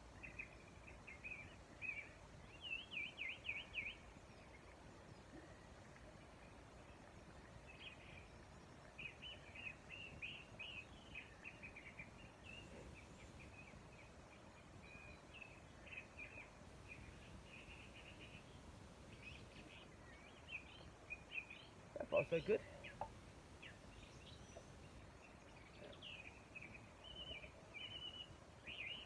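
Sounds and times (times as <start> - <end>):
low background hiss: 0.0 - 29.0
small bird chirping song: 0.0 - 29.0.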